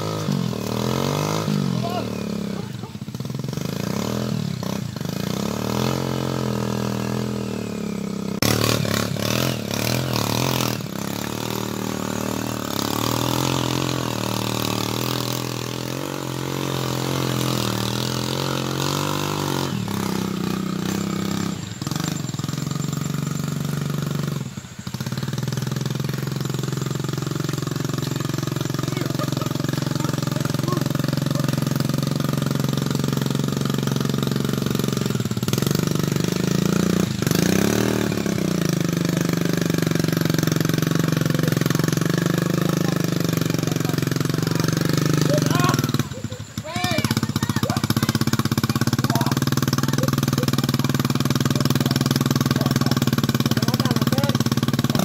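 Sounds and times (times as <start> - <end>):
small motorcycle engine revving: 0.0 - 55.0.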